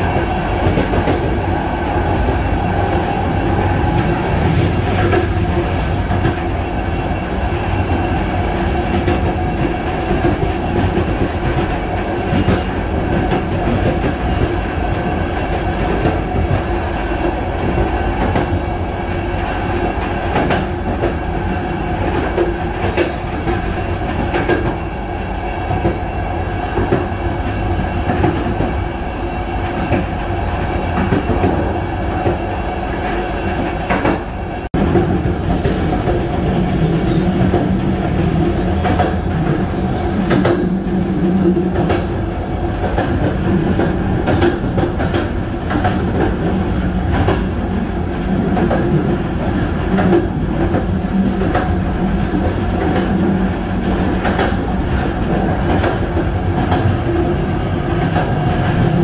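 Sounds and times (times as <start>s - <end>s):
train rail rumble: 0.0s - 59.0s.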